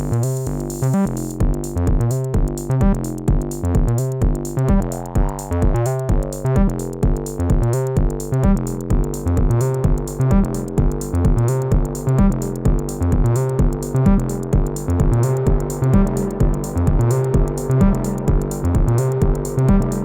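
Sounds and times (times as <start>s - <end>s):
drum machine beat: 0.0s - 20.0s
synth acid bassline: 0.0s - 20.0s.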